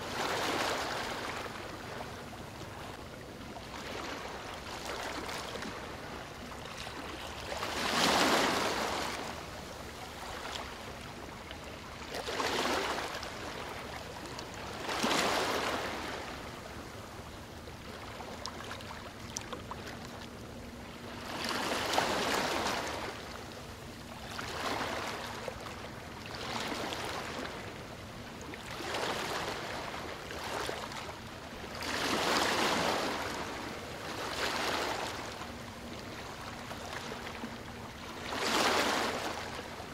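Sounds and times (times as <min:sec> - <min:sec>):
sea water lapping and sloshing: 0:00.0 - 0:39.9
wash of moving water: 0:00.0 - 0:39.9.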